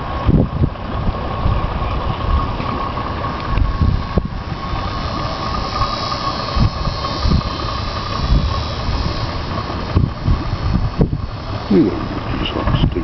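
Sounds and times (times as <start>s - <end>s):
outboard motor running: 0.0s - 13.0s
wind gusting on microphone: 0.0s - 13.0s.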